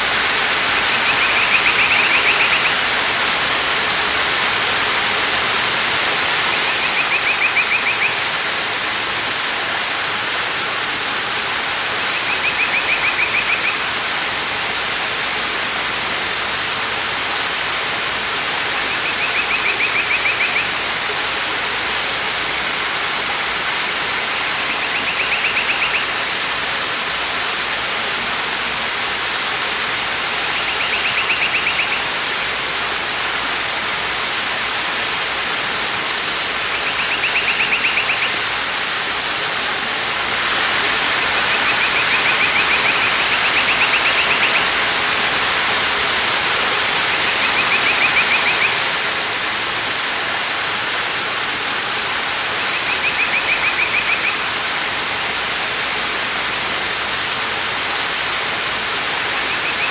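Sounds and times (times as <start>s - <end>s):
waterfall rushing water: 0.0s - 59.9s.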